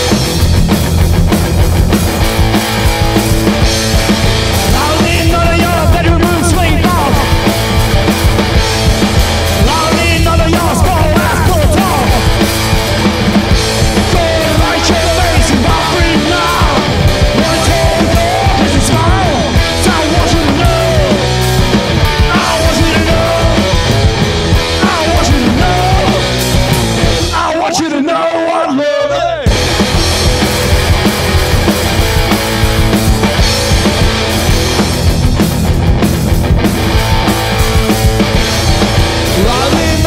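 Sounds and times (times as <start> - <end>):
loud garage rock band: 0.0 - 40.0.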